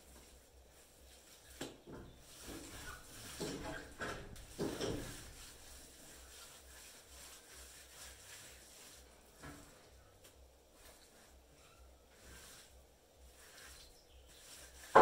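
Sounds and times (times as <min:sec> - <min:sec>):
hand rubbing wet mud on floor: 0:00.0 - 0:15.0.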